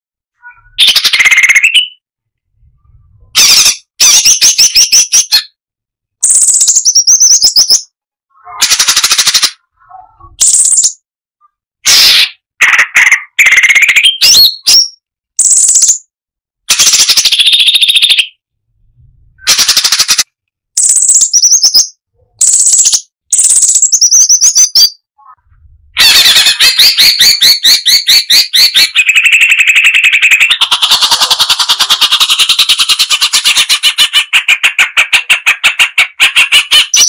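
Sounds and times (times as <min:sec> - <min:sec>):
bird chirping and whistling: 0:00.4 - 0:02.0, 0:02.8 - 0:05.5, 0:06.2 - 0:11.0, 0:11.9 - 0:16.1, 0:16.7 - 0:18.4, 0:19.4 - 0:20.2, 0:20.8 - 0:25.0, 0:26.0 - 0:37.0.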